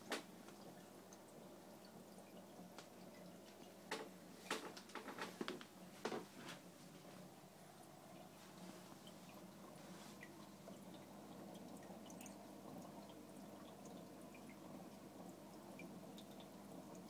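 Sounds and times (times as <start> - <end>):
aquarium filter hum: 0.0 - 17.0
water drips and ticks: 0.0 - 17.0.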